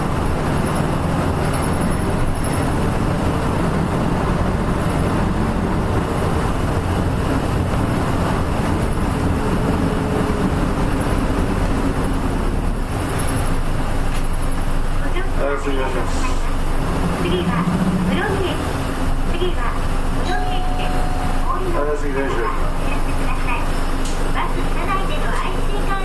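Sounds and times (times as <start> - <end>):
bus diesel engine rumble: 0.0 - 26.0
road noise: 0.0 - 26.0.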